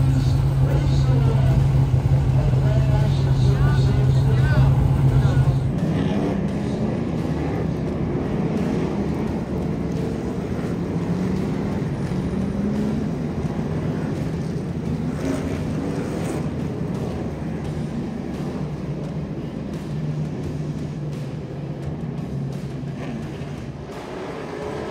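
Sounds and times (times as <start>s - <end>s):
stock car engines droning: 0.0s - 24.9s.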